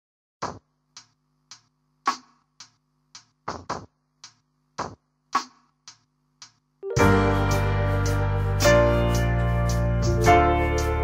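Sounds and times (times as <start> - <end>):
electronic drum beat: 0.4 - 11.0.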